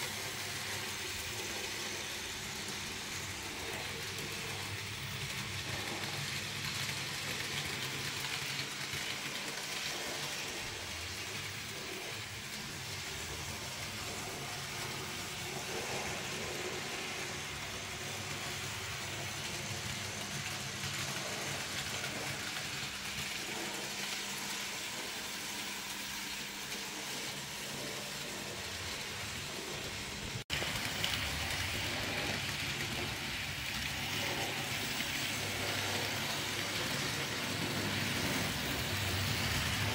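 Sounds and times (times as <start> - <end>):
model train motor hum: 0.0 - 39.9
wheels rattling on rails: 0.0 - 39.9.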